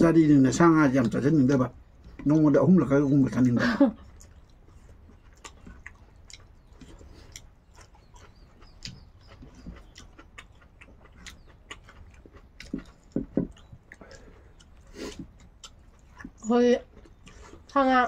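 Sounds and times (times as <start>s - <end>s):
soft chewing and lip smacks: 1.0s - 2.4s, 3.3s - 17.8s.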